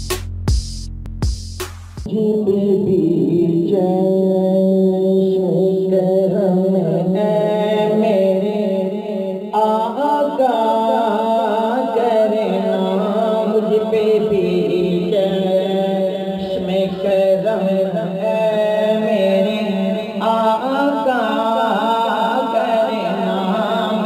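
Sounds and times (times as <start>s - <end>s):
chanted vocal melody: 2.1s - 24.0s.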